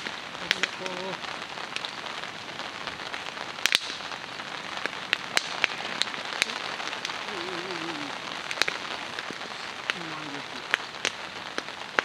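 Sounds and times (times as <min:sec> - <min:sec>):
rain on a tarp: 0:00.0 - 0:12.0.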